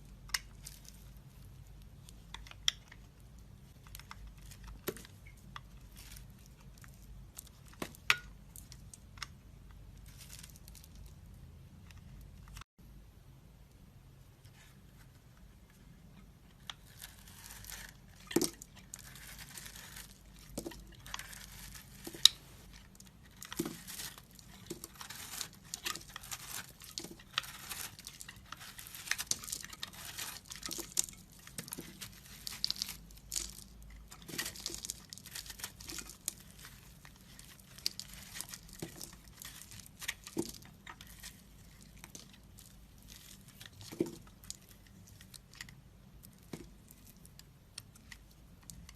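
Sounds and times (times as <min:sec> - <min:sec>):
dry soap crunching: 0:00.0 - 0:11.4, 0:16.1 - 0:48.9.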